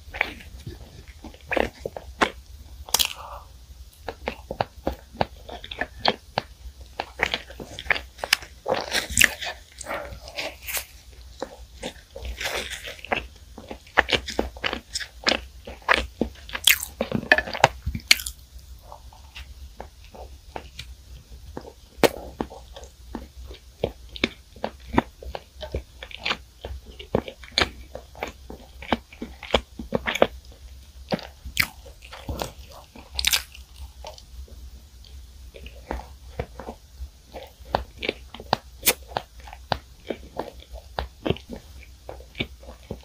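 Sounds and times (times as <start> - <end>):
crunchy bread chewing: 0.0 - 43.0.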